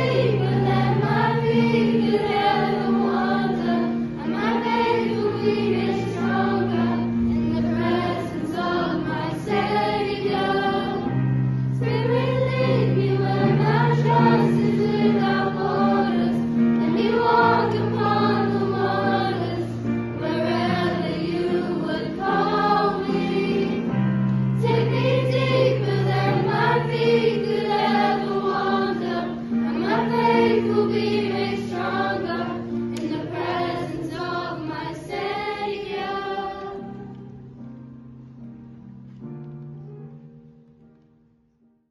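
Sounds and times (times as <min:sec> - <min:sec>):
choir singing slow melody: 0:00.0 - 0:37.8.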